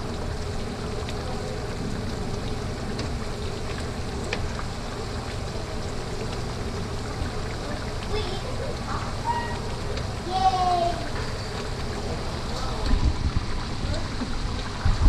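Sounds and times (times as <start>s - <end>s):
sauce bubbling in a skillet: 0.0s - 15.0s.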